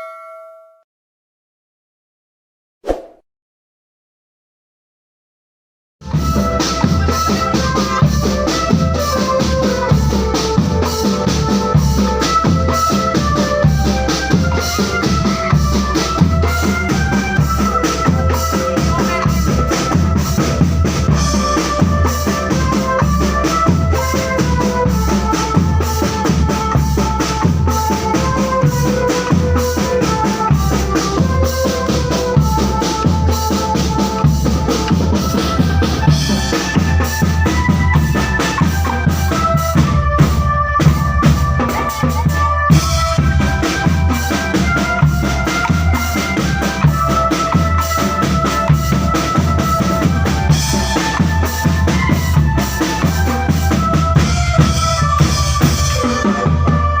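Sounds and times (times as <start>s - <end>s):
drum band playing: 6.0s - 57.0s.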